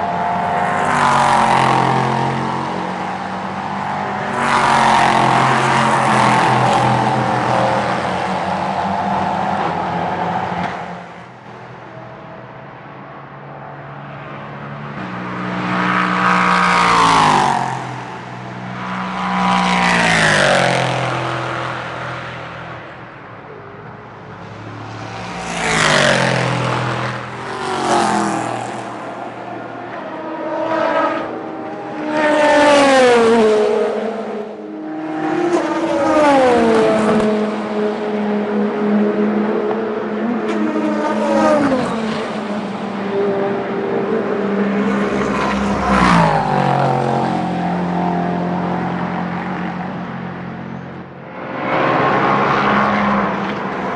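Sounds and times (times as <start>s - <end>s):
racing cars passing at speed: 0.0s - 53.9s.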